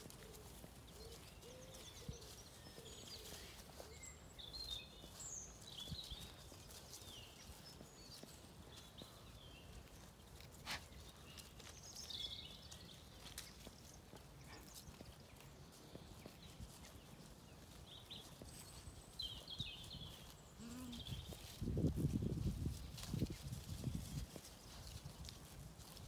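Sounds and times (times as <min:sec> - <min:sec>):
songbirds chirping and whistling: 0:00.0 - 0:25.3.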